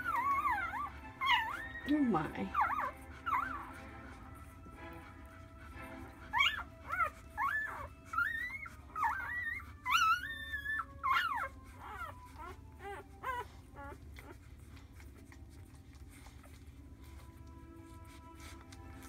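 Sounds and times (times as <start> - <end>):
puppies squeaking and whimpering: 0.0 - 19.0.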